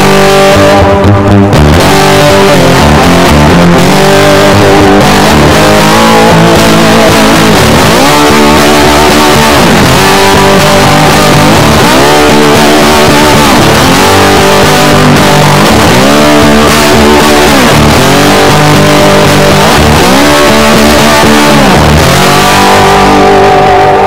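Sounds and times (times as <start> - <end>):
electric guitar music with bends: 0.0 - 24.0.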